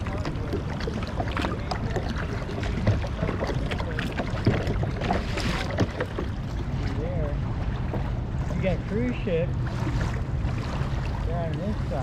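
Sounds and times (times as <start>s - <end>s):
paddle blades splashing: 0.0s - 12.0s
water lapping against kayak hull: 0.0s - 12.0s.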